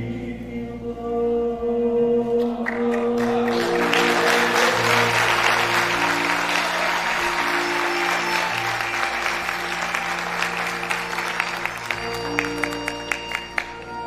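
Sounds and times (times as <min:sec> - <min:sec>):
ensemble holding notes: 0:00.0 - 0:14.0
audience applauding: 0:02.6 - 0:14.0.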